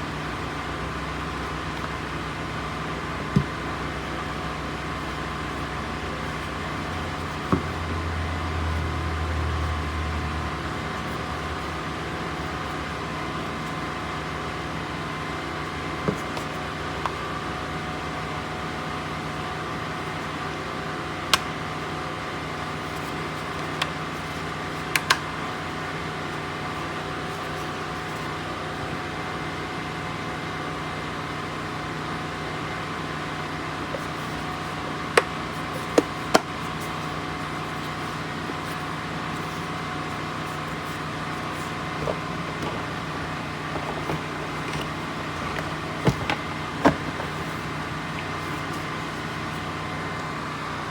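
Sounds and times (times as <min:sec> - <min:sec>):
steady background hum: 0:00.0 - 0:50.9.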